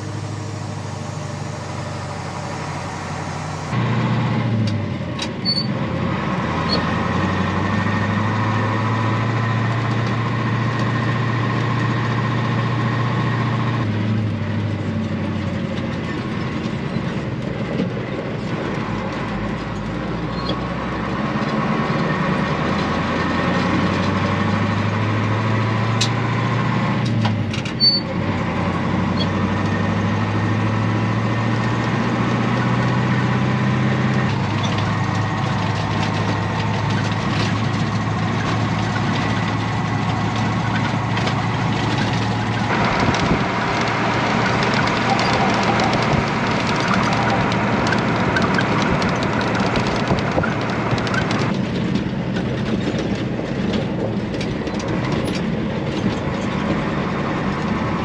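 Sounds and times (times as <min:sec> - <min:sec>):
cab and road rattle: 0:00.0 - 0:58.0
diesel truck engine running: 0:00.0 - 0:58.0.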